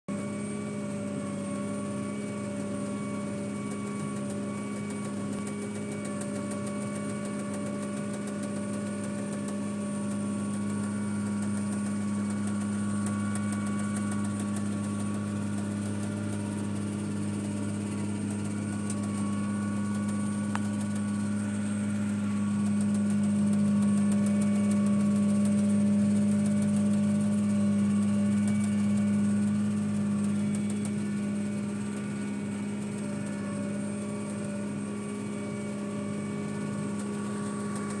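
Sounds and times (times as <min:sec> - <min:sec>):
tractor engine drone from cab: 0:00.1 - 0:38.0.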